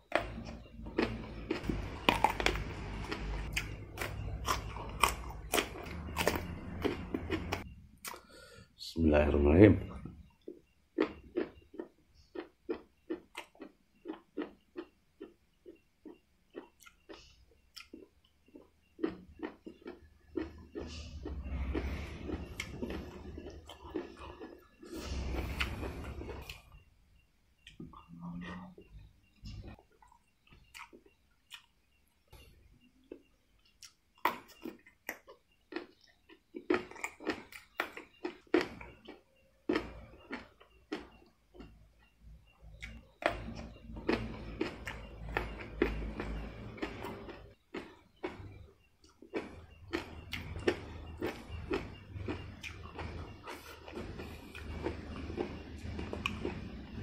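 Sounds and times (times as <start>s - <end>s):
chewing crunchy food: 0.0s - 8.6s, 9.8s - 26.9s, 27.6s - 57.0s.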